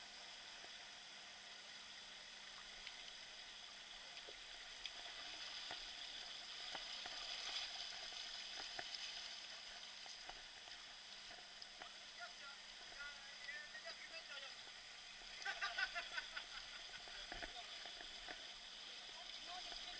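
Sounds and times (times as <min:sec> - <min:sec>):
running water hiss: 0:00.0 - 0:19.9
small clicks and splashes: 0:02.4 - 0:19.9.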